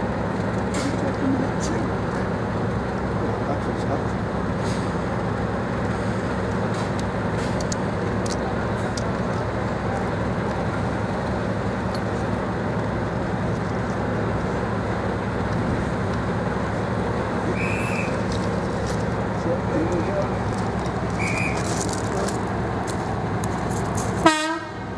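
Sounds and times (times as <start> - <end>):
diesel locomotives idling: 0.0 - 24.9.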